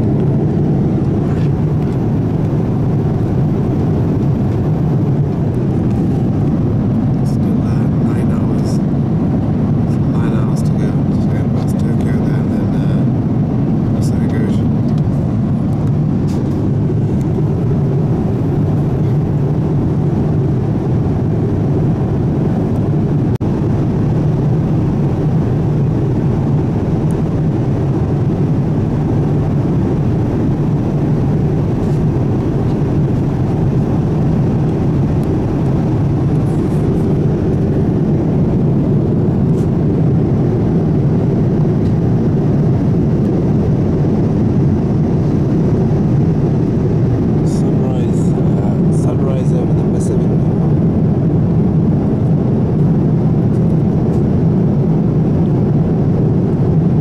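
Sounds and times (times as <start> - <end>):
airliner cabin noise: 0.0 - 57.0.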